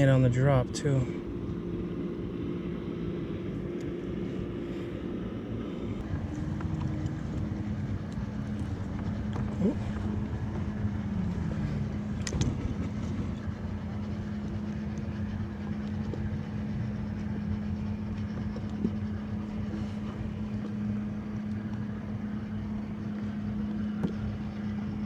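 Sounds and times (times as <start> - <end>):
background rumble: 0.0 - 25.0
steady mechanical hum: 0.0 - 25.0.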